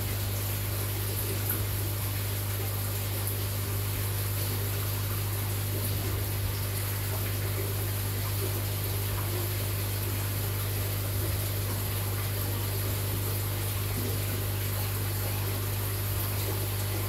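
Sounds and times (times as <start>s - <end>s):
filter pump humming: 0.0s - 17.0s
moving water: 0.0s - 17.0s.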